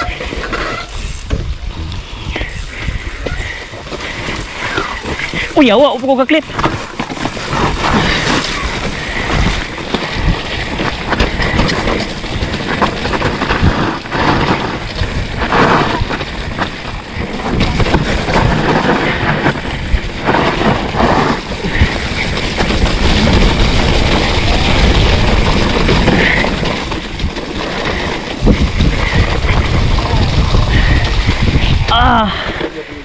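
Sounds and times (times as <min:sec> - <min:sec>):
bike tyres rumbling on dirt: 0:00.0 - 0:33.0
bike knocks and rattles: 0:02.4 - 0:32.9
wind buffeting microphone: 0:06.3 - 0:33.0.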